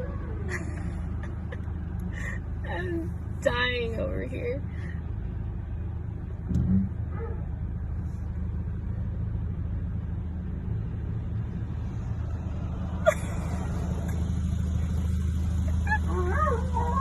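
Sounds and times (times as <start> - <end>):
car engine rumble: 0.0 - 17.0
road noise inside car: 0.0 - 17.0.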